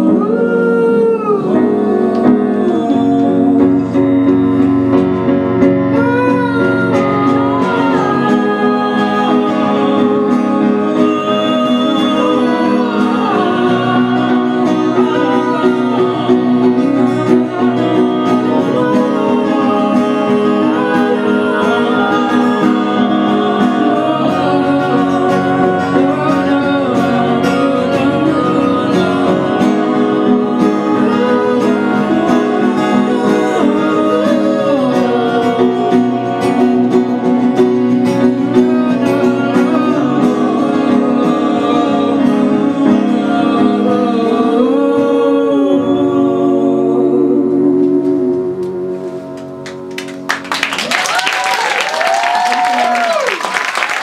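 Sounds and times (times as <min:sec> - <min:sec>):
person singing: 0:00.0 - 0:49.9, 0:50.9 - 0:54.0
acoustic guitar: 0:00.0 - 0:54.0
grand piano: 0:00.0 - 0:54.0.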